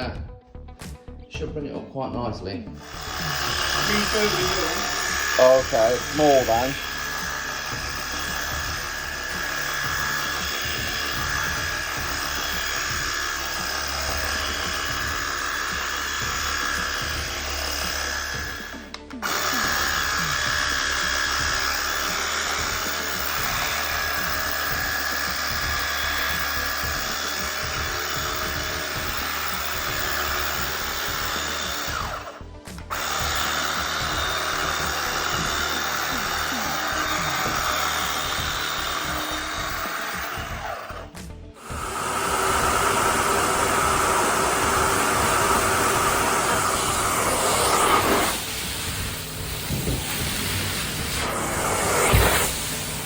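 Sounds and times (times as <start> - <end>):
carpet cleaner suction whine: 2.8 - 53.0.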